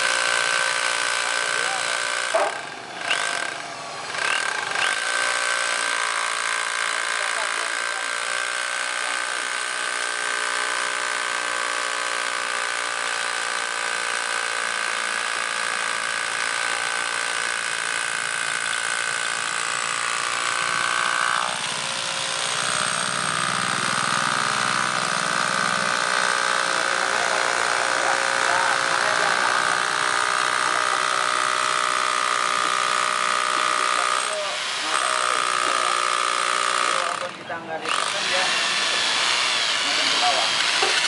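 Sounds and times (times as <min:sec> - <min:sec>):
electric drill boring into concrete: 0:00.0 - 0:41.0.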